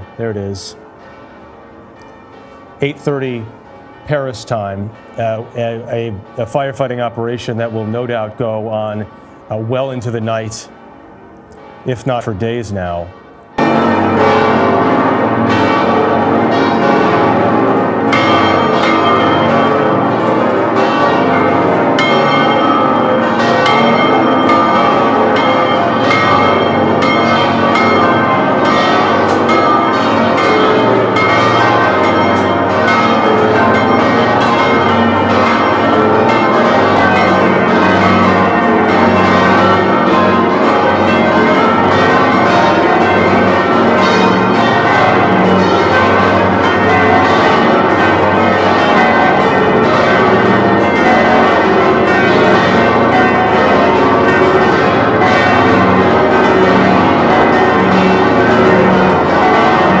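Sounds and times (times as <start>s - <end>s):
church bells pealing: 0.0s - 60.0s.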